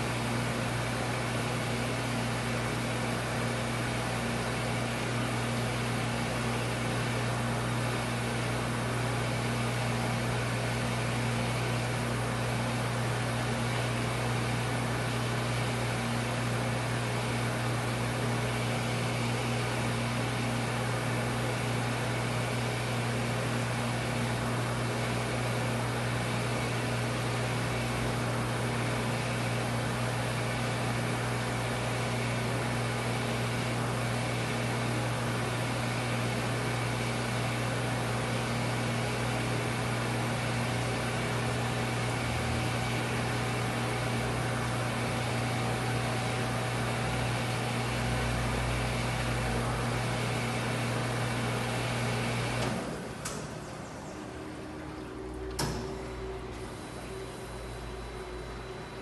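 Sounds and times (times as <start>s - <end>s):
washer motor hum: 0.0s - 59.0s.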